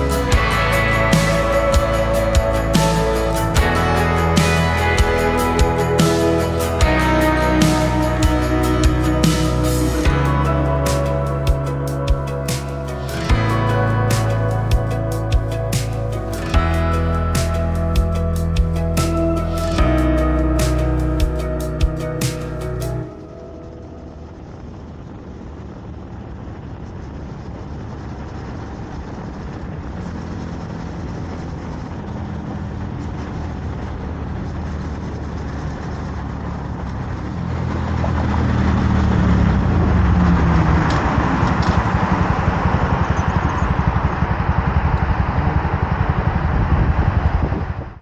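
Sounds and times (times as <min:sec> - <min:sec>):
motorcycle engine running: 0:00.0 - 0:48.0
wind and road noise: 0:00.0 - 0:48.0.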